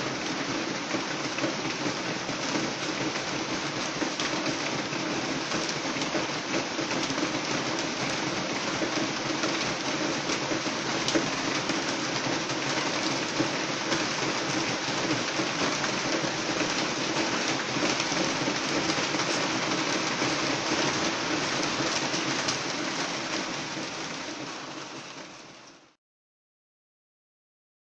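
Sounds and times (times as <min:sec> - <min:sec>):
rain falling on a roof: 0:00.0 - 0:26.0.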